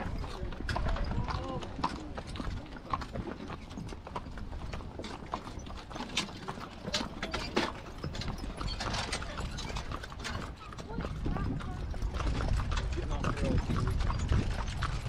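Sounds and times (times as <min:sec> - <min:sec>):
hooves clip-clopping on asphalt: 0:00.0 - 0:15.0.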